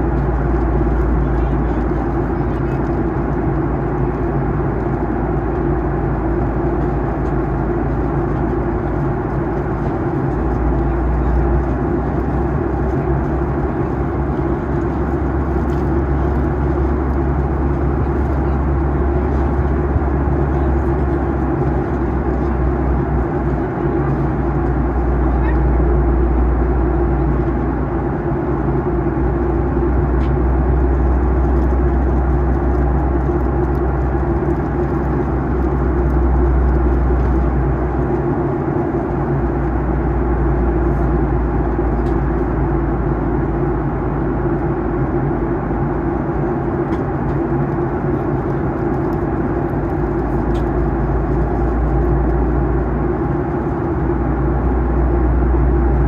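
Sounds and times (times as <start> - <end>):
low engine rumble: 0.0 - 56.0.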